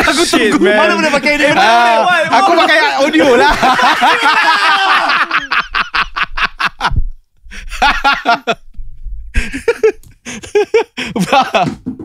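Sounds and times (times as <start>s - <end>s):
men laughing: 0.8s - 8.6s, 9.4s - 11.8s.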